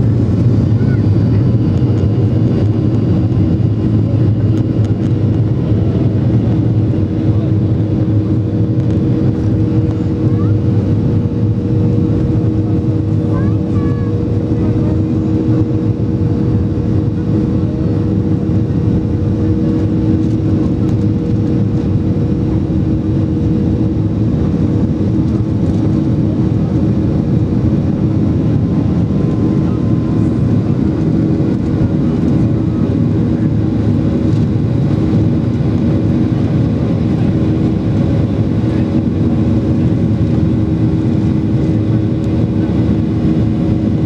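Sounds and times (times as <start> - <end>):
jet engines rumbling in cabin: 0.0 - 44.0.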